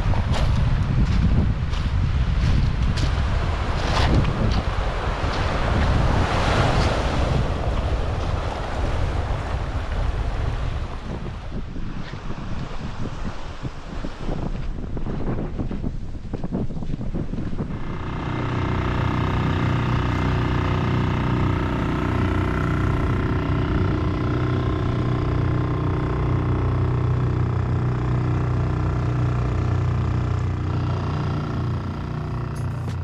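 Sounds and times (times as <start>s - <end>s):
boat engine running: 0.0s - 11.8s, 12.6s - 33.0s.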